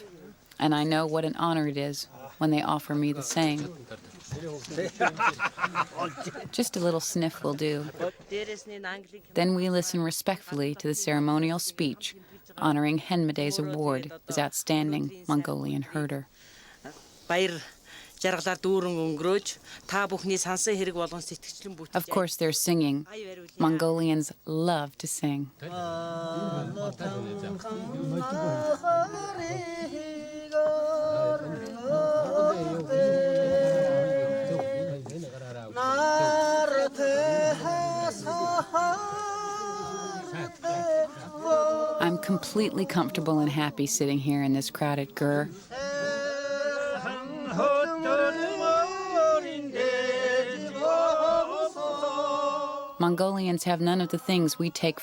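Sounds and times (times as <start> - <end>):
folk singing with long notes: 0.0 - 21.0, 21.9 - 55.0.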